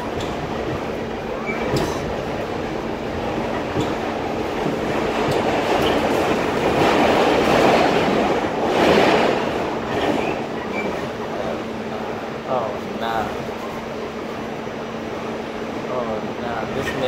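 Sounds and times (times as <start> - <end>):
subway train wheels rumbling on track: 0.0 - 17.0.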